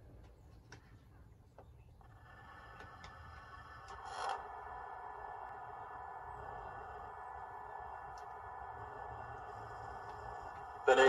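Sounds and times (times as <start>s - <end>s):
electric train whine: 2.0s - 11.0s.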